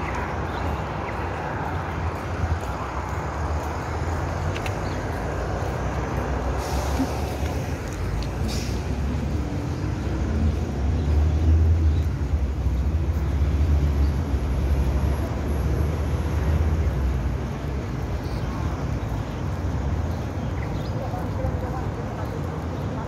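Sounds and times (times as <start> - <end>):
street noise low rumble: 0.0 - 23.0.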